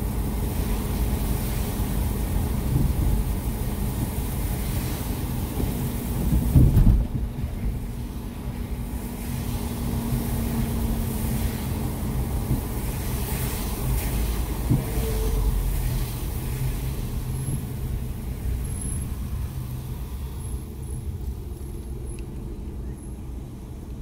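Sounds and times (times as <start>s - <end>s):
low road rumble: 0.0s - 24.0s.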